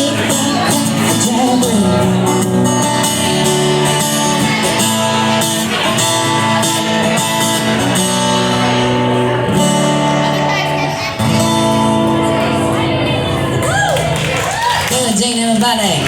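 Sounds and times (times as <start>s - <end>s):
live band playing: 0.0s - 15.7s
strummed guitar: 0.0s - 16.0s.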